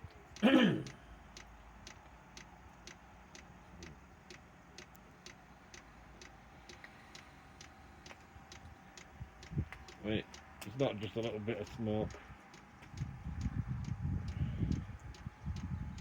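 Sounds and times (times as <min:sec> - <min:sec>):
faint steady hum: 0:00.0 - 0:16.0
fuel pump ticking: 0:00.0 - 0:16.0.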